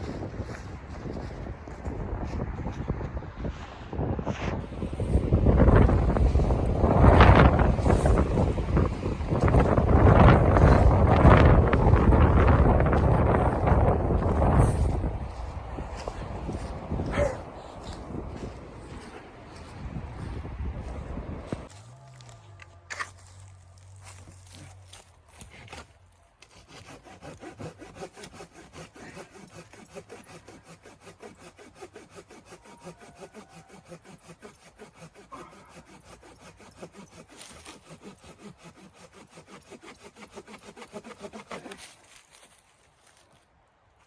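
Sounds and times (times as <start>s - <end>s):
hand saw cutting wood: 4.3s - 20.3s, 21.5s - 43.3s.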